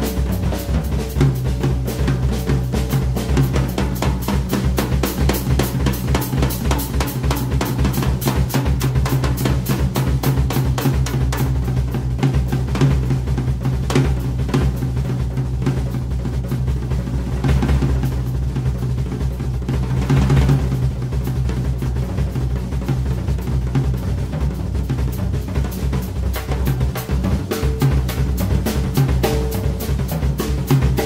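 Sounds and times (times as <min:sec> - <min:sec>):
drum kit solo: 0:00.0 - 0:31.0.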